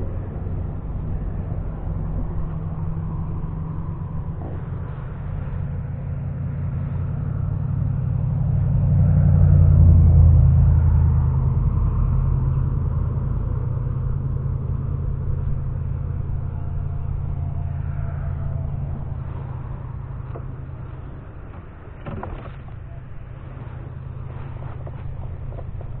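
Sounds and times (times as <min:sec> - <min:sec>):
low motor rumble: 0:00.0 - 0:26.0.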